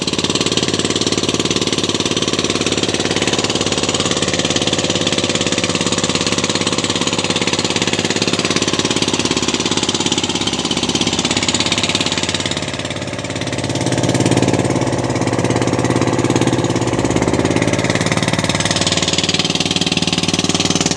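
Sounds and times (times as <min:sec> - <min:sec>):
boat engine knocking: 0:00.0 - 0:20.9.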